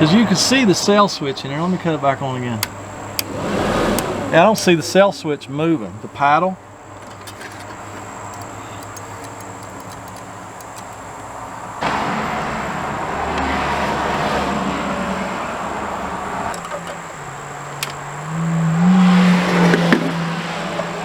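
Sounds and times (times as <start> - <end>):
vehicle engine hum rising: 0.0 - 4.7, 6.6 - 21.0
highway traffic rushing: 0.0 - 21.0.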